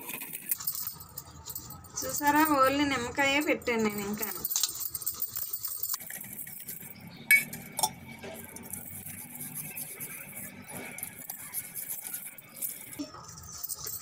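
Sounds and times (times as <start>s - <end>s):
copper vessels clinking: 0.0s - 14.0s
lemon rubbing on copper: 0.0s - 14.0s.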